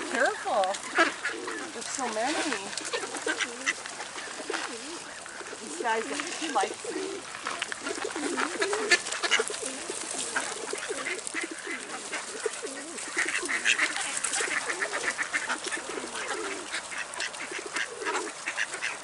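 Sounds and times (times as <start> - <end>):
ducks and geese calling: 0.0 - 19.0
pigeons cooing: 0.0 - 19.0.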